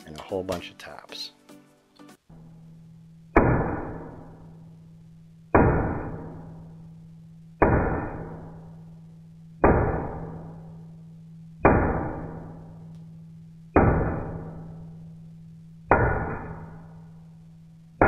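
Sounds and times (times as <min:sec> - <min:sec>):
steady low hum: 0:02.3 - 0:18.0.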